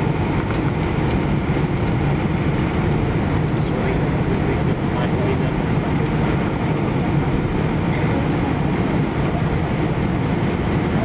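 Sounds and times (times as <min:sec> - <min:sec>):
aircraft rolling rumble: 0:00.0 - 0:11.0
jet engines at low power: 0:00.0 - 0:11.0.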